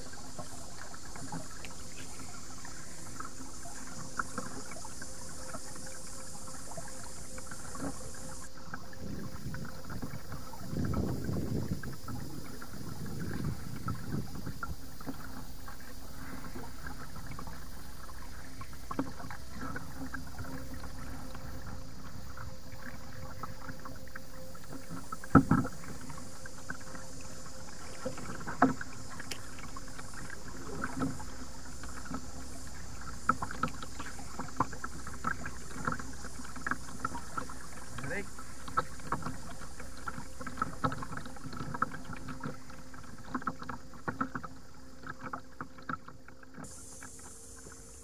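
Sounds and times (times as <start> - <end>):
paddle strokes splashing water: 0.0 - 48.0.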